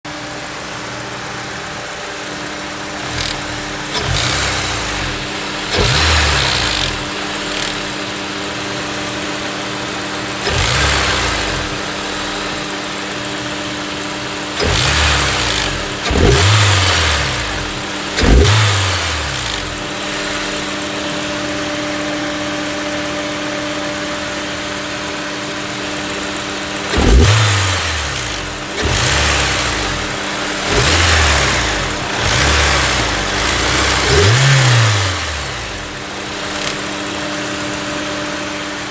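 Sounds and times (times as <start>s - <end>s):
car engine idling and revving: 0.0s - 38.9s
engine clicking: 1.9s - 22.3s, 24.7s - 38.9s.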